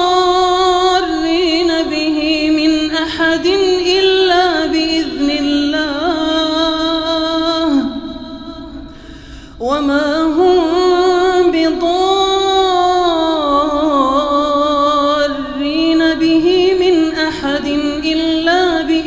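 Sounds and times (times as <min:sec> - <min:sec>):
man chanting recitation: 0:00.0 - 0:08.7, 0:09.7 - 0:19.0.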